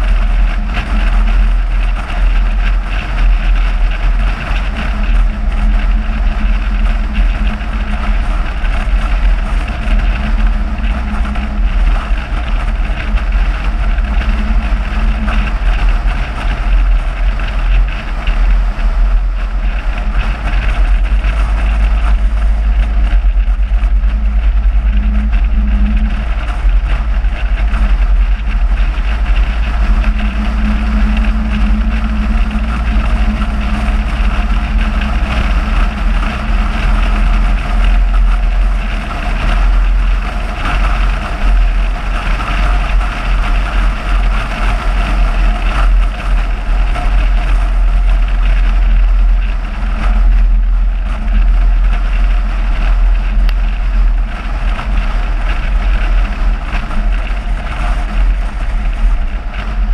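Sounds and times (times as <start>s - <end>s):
car engine and road noise: 0.0s - 59.9s
wind rumbling on microphone: 0.0s - 59.9s.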